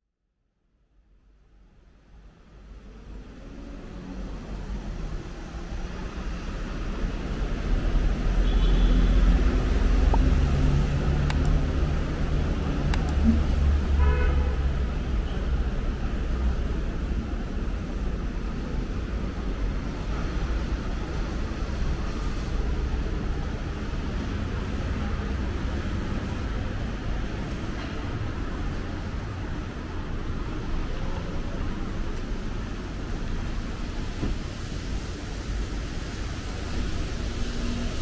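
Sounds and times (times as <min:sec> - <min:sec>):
low traffic rumble: 0:01.2 - 0:38.0
vehicles passing: 0:02.2 - 0:38.0.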